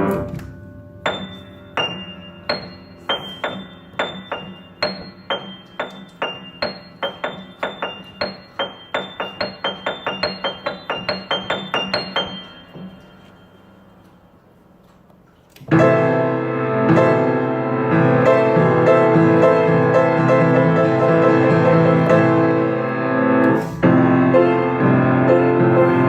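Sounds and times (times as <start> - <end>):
piano held low note: 0.0 - 14.4, 15.7 - 26.0
loud piano chord: 0.0 - 14.8, 15.7 - 26.0
piano high single notes: 0.0 - 14.9, 15.7 - 26.0.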